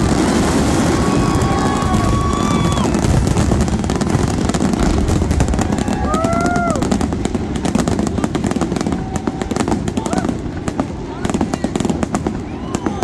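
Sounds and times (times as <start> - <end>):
fireworks bursting rumble: 0.0 - 13.0
fireworks crackling: 0.0 - 13.0
fireworks whistling: 0.0 - 13.0.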